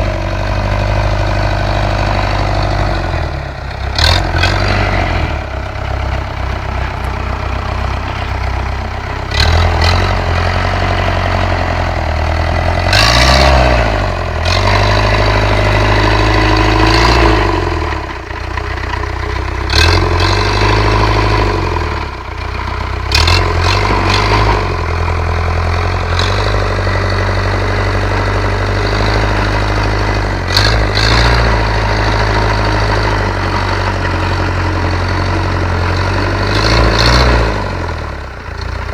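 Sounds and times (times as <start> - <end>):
tractor engine revving: 0.0 - 38.9.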